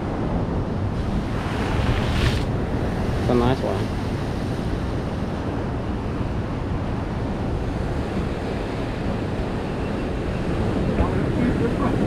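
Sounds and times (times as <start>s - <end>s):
ocean surf washing ashore: 0.0s - 12.0s
wind buffeting microphone: 0.0s - 12.0s.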